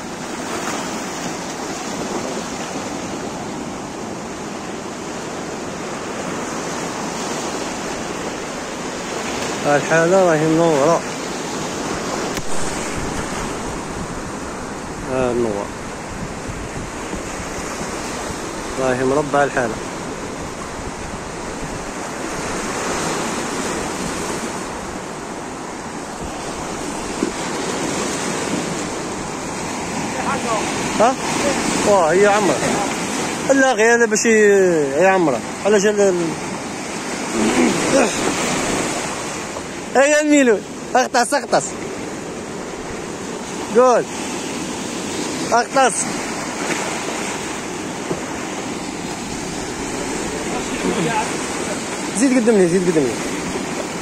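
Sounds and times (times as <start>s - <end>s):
surf washing over rocks: 0.0s - 54.0s.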